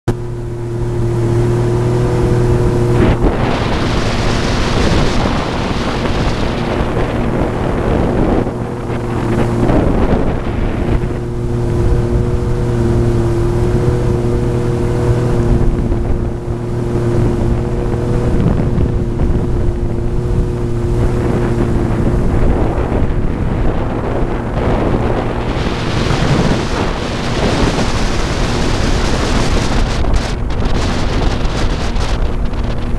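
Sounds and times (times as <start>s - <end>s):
jet ski engine humming: 0.1s - 32.9s
water rushing: 0.1s - 32.9s
wind buffeting microphone: 0.1s - 32.9s.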